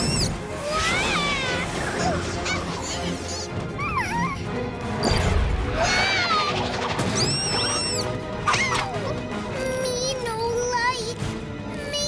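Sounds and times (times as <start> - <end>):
cartoon music: 0.0 - 10.1.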